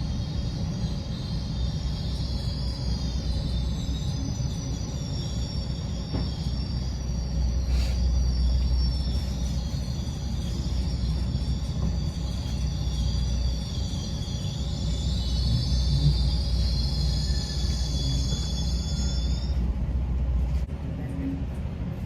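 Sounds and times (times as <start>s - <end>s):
faint high wavering whine: 0.0s - 20.7s
train rumbling on rails: 0.0s - 22.0s.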